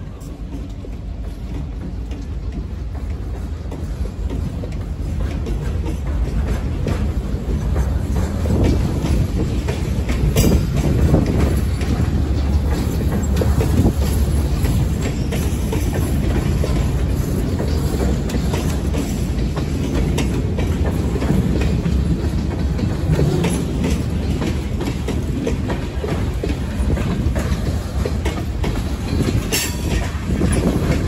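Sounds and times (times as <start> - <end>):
freight train rumbling past: 0.0 - 31.0
wheels clicking over rail joints: 0.0 - 31.0.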